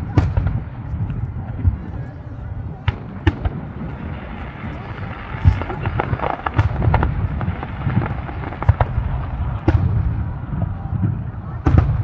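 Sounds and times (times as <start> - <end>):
continuous low rumble: 0.0 - 12.0.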